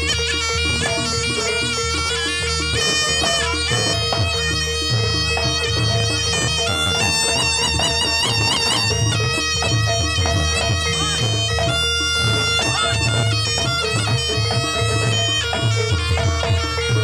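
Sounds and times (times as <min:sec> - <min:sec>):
held drone: 0:00.0 - 0:17.0
low drum beats: 0:00.0 - 0:17.0
reedy shawm melody: 0:00.0 - 0:17.0.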